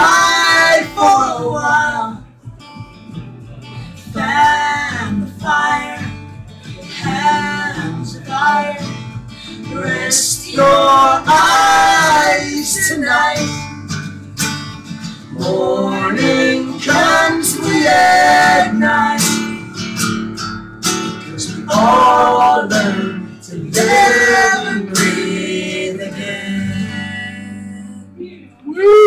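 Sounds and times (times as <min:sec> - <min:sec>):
man and woman singing: 0:00.0 - 0:02.4, 0:03.7 - 0:13.7, 0:15.2 - 0:19.8, 0:21.2 - 0:29.0
acoustic guitar strumming: 0:00.0 - 0:28.2.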